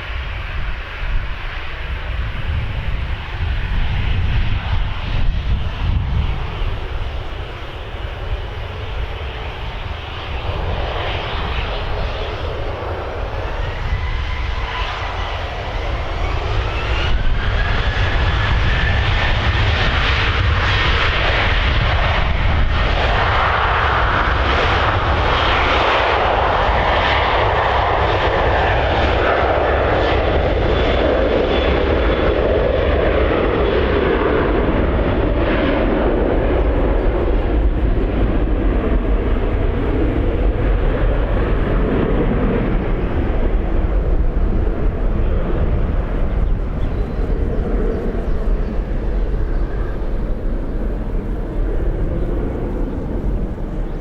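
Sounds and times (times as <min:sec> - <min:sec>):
jet engines whining and roaring: 0:00.0 - 0:54.0.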